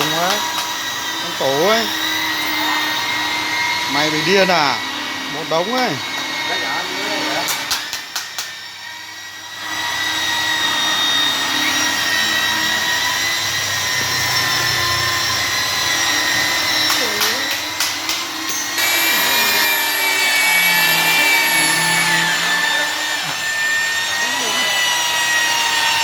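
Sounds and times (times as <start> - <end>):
power tool motor whining: 0.0 - 26.0.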